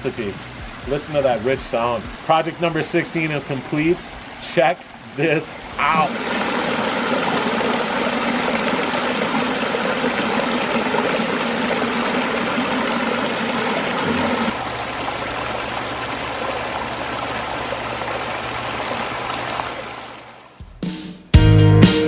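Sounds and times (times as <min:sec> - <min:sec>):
water rushing down stone cascade: 0:00.0 - 0:20.3.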